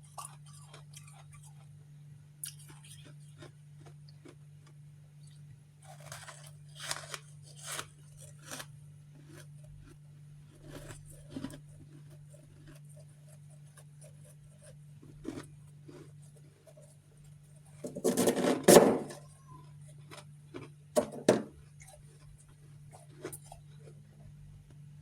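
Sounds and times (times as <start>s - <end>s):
frost chunks crunching when chewed: 0.0s - 18.3s, 19.2s - 24.9s.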